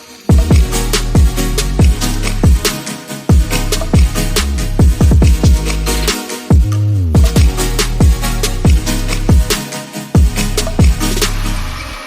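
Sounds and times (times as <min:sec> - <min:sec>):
electronic music with heavy beat: 0:00.0 - 0:12.0.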